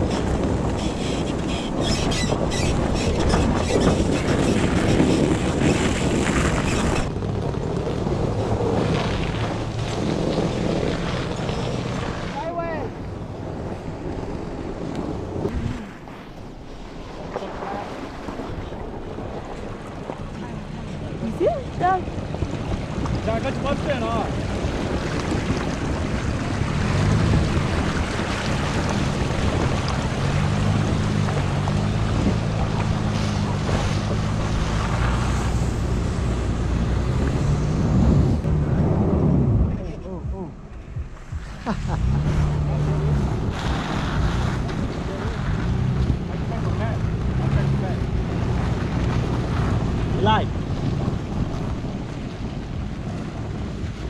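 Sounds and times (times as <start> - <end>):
truck engine hum: 0.0 - 16.7, 17.4 - 54.0
tyre and wind noise: 0.0 - 54.0.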